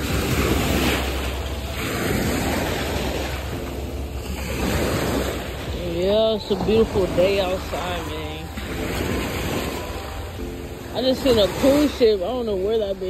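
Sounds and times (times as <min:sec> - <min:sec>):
waves washing over rocks: 0:00.0 - 0:13.0.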